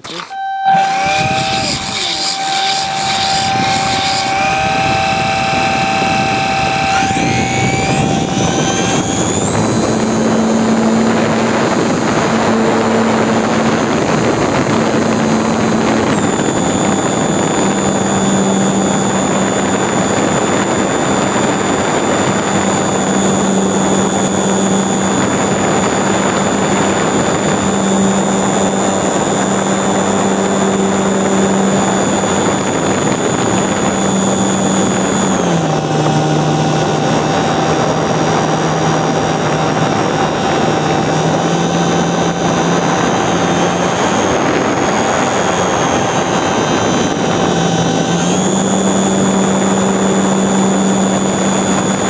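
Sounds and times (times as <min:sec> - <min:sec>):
electric motor whine: 0:00.0 - 0:52.0
propeller wash and wind rushing: 0:00.9 - 0:52.0.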